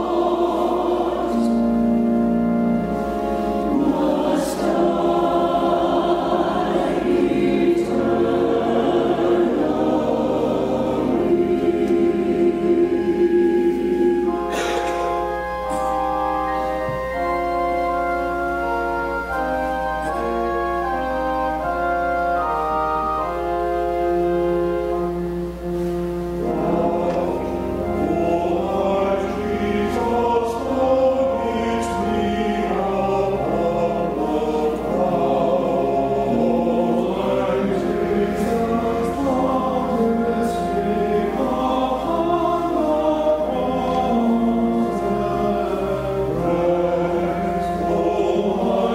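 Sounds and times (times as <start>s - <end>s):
choir singing: 0.0s - 48.9s
organ chords: 0.0s - 48.9s.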